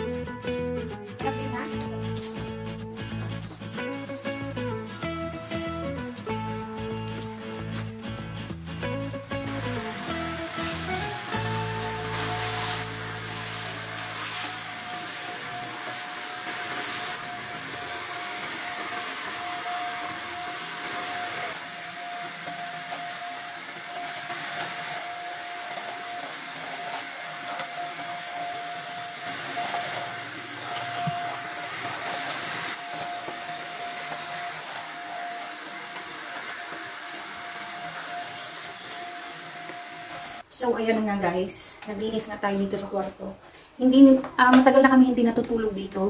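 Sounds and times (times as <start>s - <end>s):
vacuum cleaner running: 1.2s - 8.0s, 8.8s - 40.5s.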